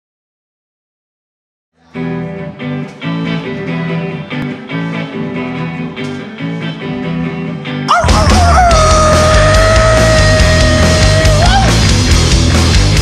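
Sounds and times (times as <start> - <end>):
electric guitar riff: 1.8 - 13.0.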